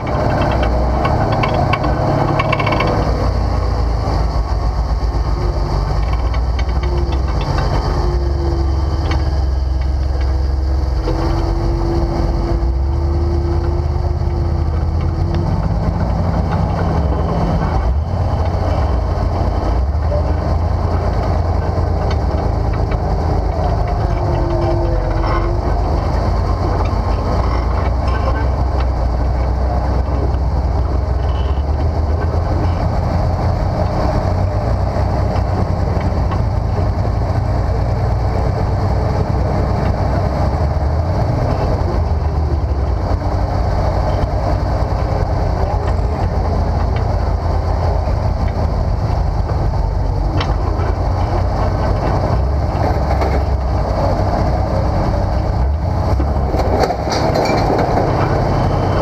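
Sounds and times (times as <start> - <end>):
engine rumbling under load: 0.0 - 59.0.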